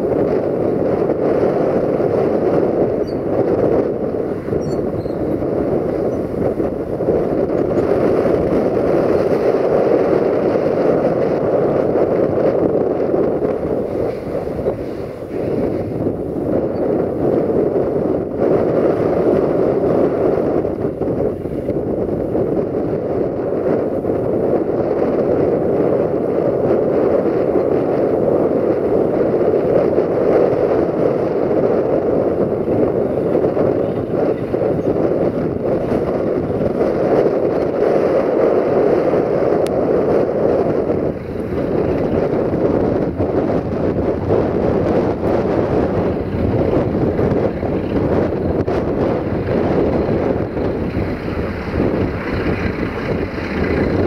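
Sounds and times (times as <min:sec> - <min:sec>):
locomotive diesel engine drone: 0:00.0 - 0:54.0.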